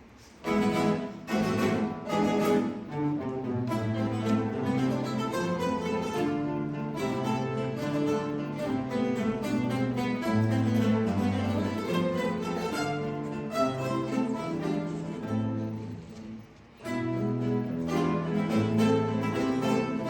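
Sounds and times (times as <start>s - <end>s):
acoustic guitars playing a waltz: 0.0s - 20.0s.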